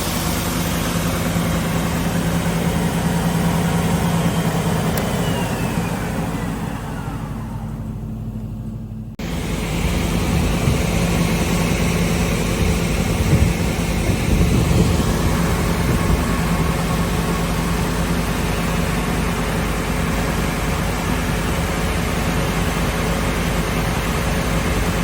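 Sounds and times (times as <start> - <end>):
belt sander running: 0.0 - 25.0.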